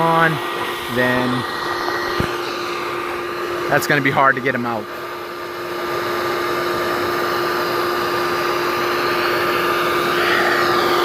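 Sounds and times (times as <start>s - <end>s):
vacuum motor hum and whine: 0.0s - 11.0s.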